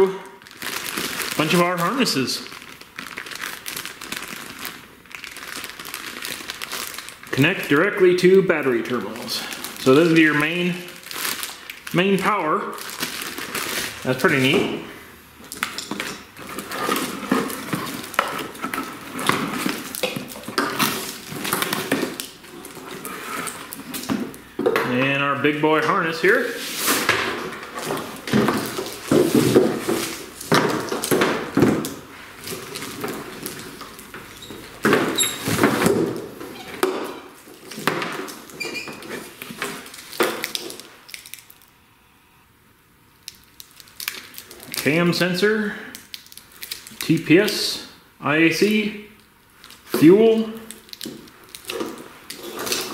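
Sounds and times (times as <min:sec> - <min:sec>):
wires rustling against cardboard: 0:00.4 - 0:25.1, 0:26.0 - 0:41.6, 0:49.6 - 0:52.9.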